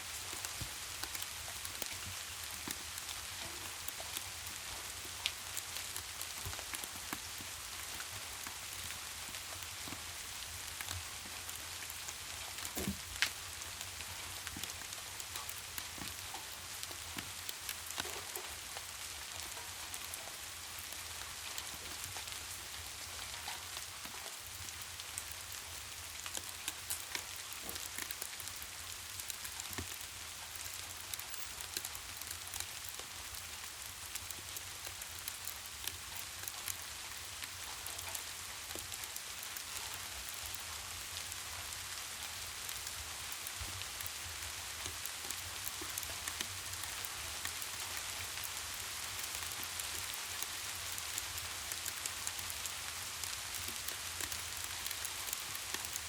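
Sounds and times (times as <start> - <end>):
steady rain with drop ticks: 0.0 - 56.0.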